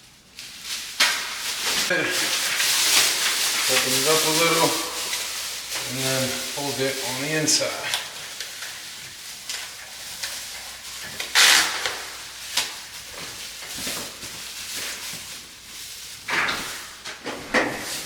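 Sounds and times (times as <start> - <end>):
plastic sheeting crinkling: 0.0 - 18.0.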